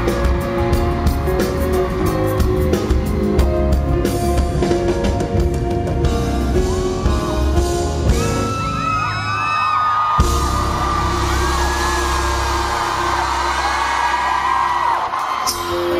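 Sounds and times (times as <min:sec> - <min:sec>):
crowd screaming and cheering: 0:00.0 - 0:15.9
live band playing: 0:00.0 - 0:15.9.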